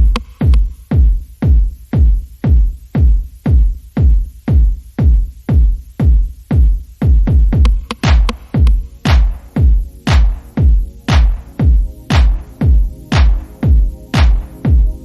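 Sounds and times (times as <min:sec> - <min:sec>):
electronic music with kick drum: 0:00.0 - 0:15.0.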